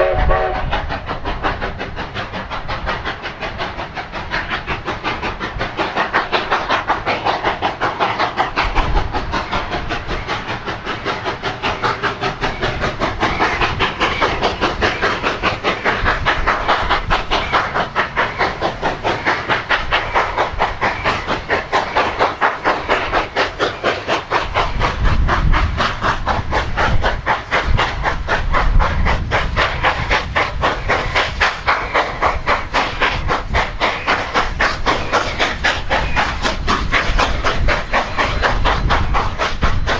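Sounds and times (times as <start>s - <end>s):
hissing steam: 0.0s - 39.9s
steam locomotive chuffing: 0.0s - 39.9s.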